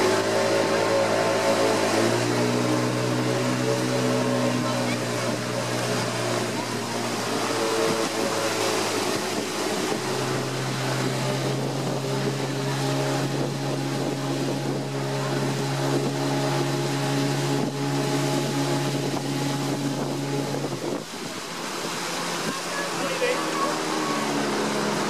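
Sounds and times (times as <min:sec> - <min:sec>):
boat motor running: 0:00.0 - 0:25.0
water rushing along hull: 0:00.0 - 0:25.0
wind on microphone: 0:01.9 - 0:23.3.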